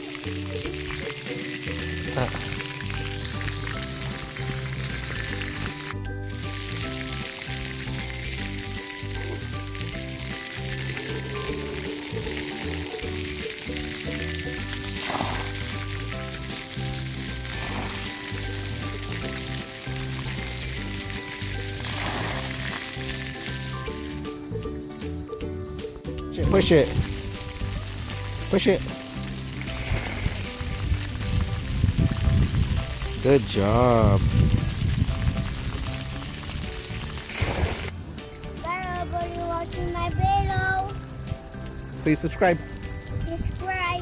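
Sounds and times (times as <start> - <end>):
water spraying from fountains: 0.0 - 25.6, 26.4 - 44.0
background music: 0.0 - 44.0.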